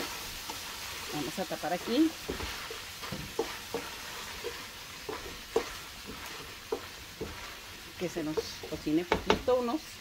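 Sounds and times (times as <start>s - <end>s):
spatula knocking and scraping pot: 0.0s - 9.8s
meat sizzling in pot: 0.0s - 10.0s.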